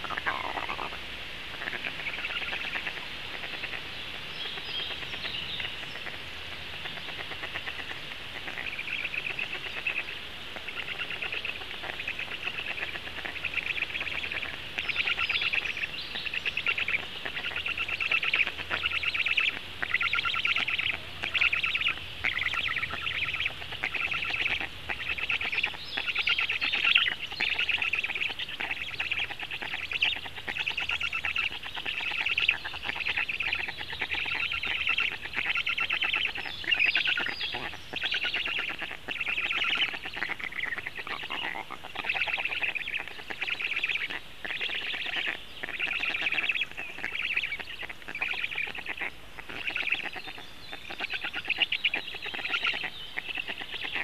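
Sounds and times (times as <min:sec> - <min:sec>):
stork chicks raspy begging calls: 0:00.0 - 0:54.0.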